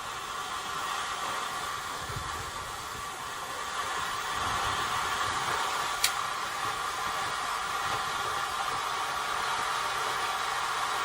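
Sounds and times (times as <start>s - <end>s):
gas burner flame hissing: 0.0s - 11.0s.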